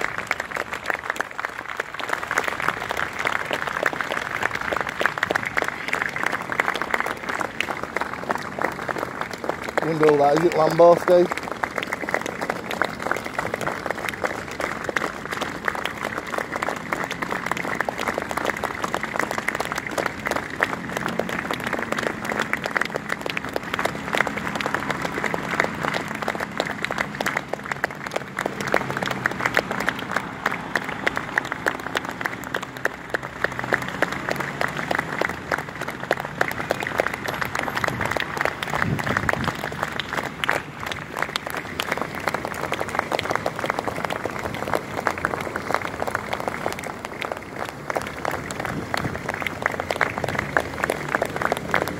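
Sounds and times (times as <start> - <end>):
crowd clapping: 0.0 - 51.9.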